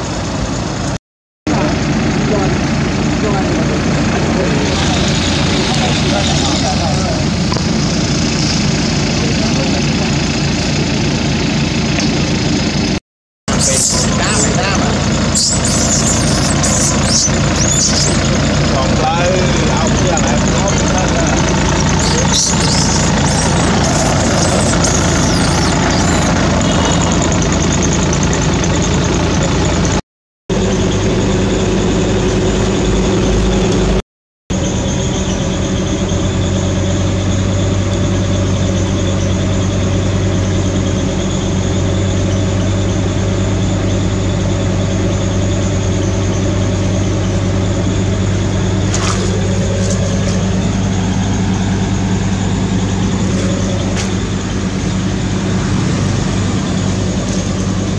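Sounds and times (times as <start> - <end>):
engine idling: 0.0 - 34.0, 34.6 - 57.9.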